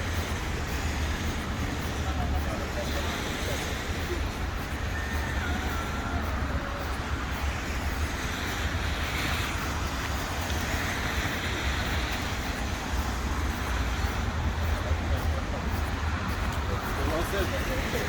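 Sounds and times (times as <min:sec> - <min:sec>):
passing traffic: 0:00.0 - 0:18.0
wind rumbling on microphone: 0:00.0 - 0:18.0.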